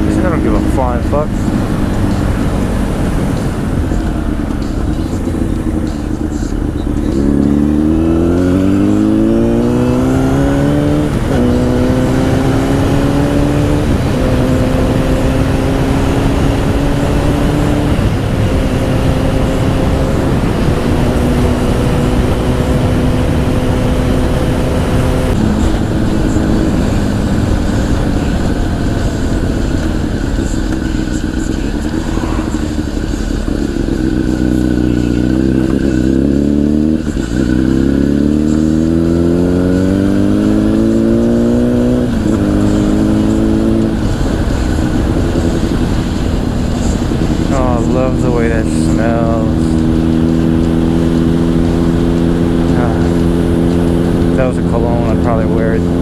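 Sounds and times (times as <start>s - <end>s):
motorcycle engine through gears: 0.0s - 56.0s.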